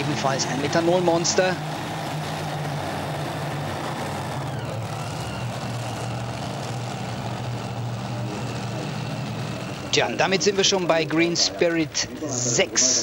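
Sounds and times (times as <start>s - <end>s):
tractor engines running at low revs: 0.0s - 13.0s.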